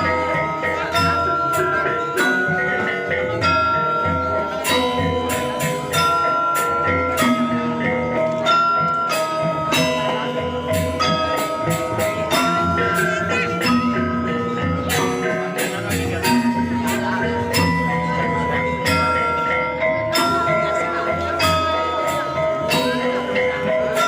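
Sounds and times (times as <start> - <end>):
gamelan playing: 0.0 - 24.0.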